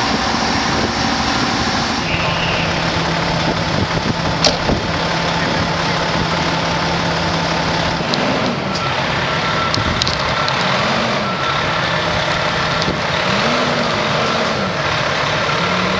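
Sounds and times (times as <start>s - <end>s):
fire engine running: 0.0s - 15.9s.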